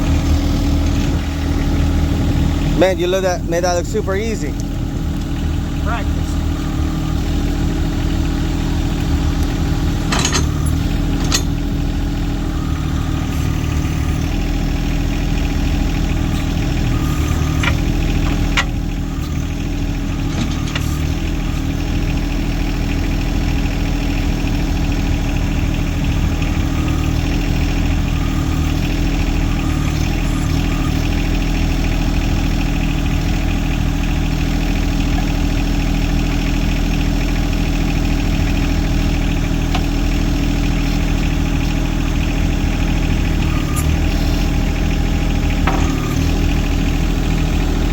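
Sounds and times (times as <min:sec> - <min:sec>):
tractor engine idling: 0:00.0 - 0:47.9.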